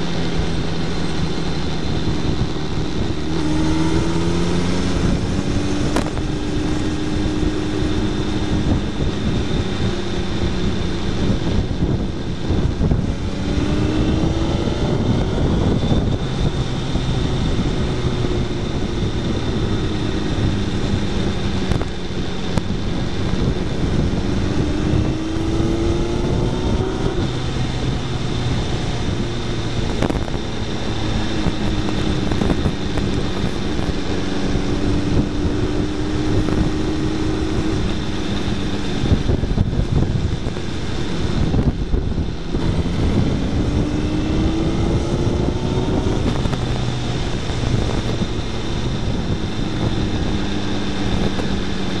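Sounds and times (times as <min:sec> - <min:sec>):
motorcycle engine accelerating: 0:00.0 - 0:52.0
wind and road noise: 0:00.0 - 0:52.0.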